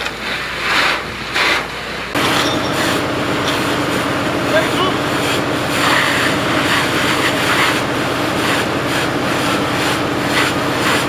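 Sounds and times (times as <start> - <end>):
engine drone: 0.0 - 11.0
fire hose spraying water: 0.0 - 11.0.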